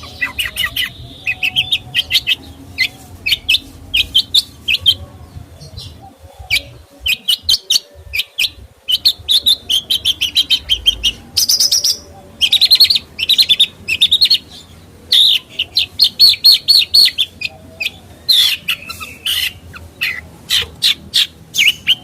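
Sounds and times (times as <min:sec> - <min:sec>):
songbird chirping and trilling: 0:00.0 - 0:22.0.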